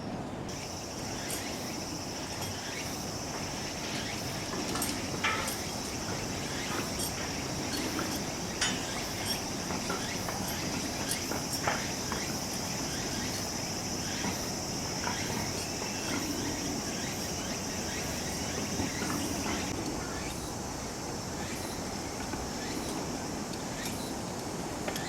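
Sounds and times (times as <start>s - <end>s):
high-pitched insect chorus: 0.5s - 25.0s.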